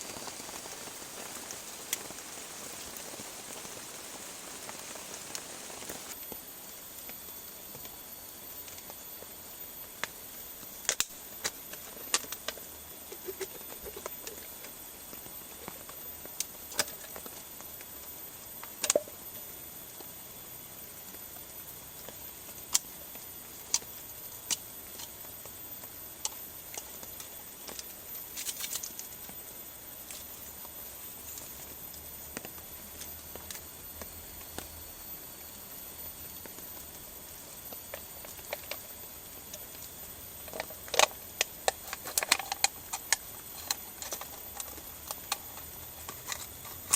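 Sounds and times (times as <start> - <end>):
steady rain: 0.0 - 13.2, 13.8 - 46.9.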